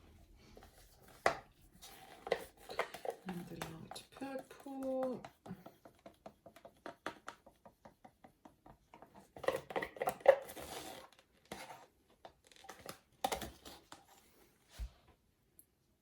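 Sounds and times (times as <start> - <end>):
plastic cups clicking and clattering: 0.5 - 14.1.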